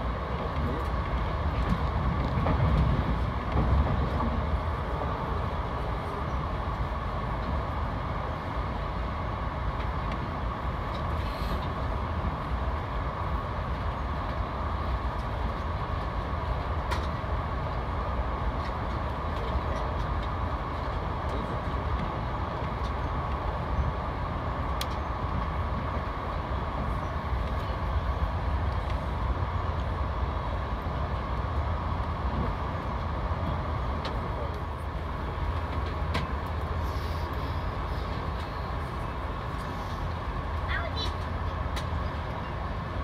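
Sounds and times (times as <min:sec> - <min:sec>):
train rumbling at speed: 0:00.0 - 0:43.0.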